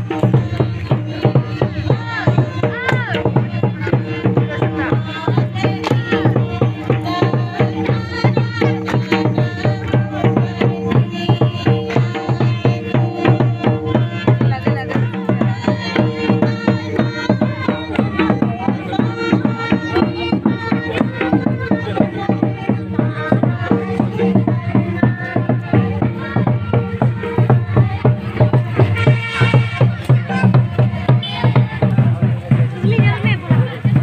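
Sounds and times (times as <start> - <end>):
group singing a hymn: 0.0 - 32.7
hand drums beating: 0.0 - 34.0.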